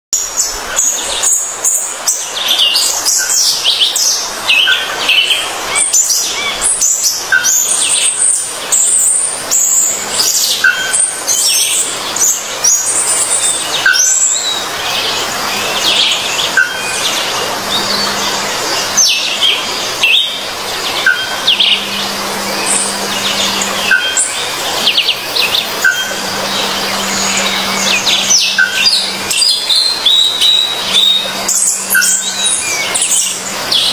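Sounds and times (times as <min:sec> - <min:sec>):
small birds chirping: 0:00.2 - 0:33.9.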